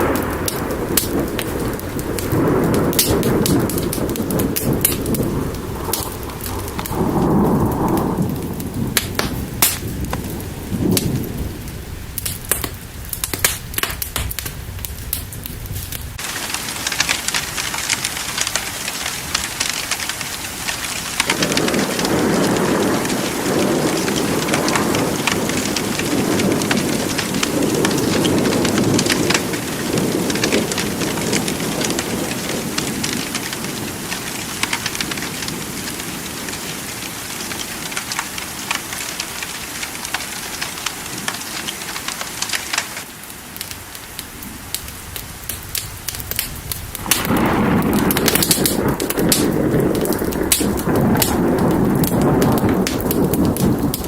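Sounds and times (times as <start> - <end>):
rolling thunder: 0.0 - 39.0, 43.6 - 54.0
heavy rain: 0.0 - 54.0
sharp crackles: 0.0 - 54.0.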